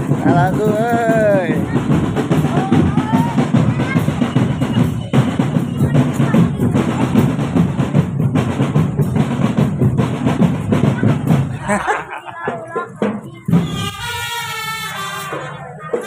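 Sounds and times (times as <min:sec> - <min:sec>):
bass drums beating: 0:00.0 - 0:15.5
snare drums beating and rolling: 0:00.0 - 0:16.0.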